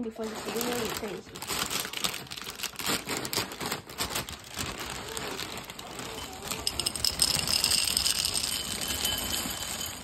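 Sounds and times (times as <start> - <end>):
plastic bag crinkling: 0.0 - 10.0
cereal pouring into a bowl: 0.3 - 10.0.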